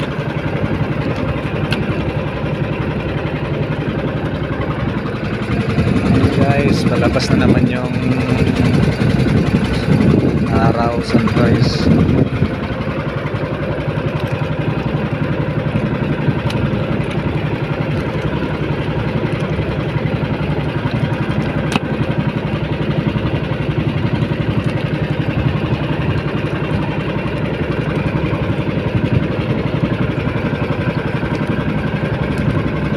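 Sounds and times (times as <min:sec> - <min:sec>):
small boat engine running: 0:00.0 - 0:32.9.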